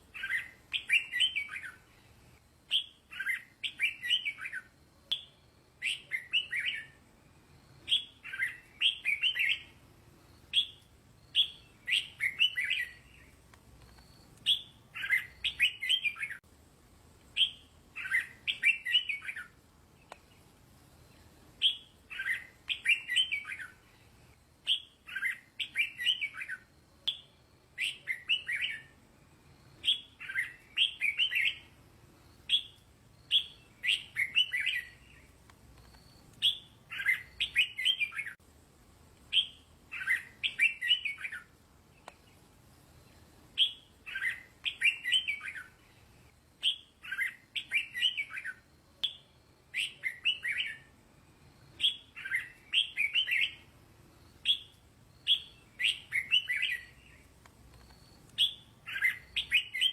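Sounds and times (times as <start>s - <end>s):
bulbul singing: 0.0s - 9.8s, 10.4s - 16.4s, 17.3s - 29.0s, 29.6s - 38.4s, 39.2s - 42.4s, 43.0s - 51.0s, 51.7s - 59.9s.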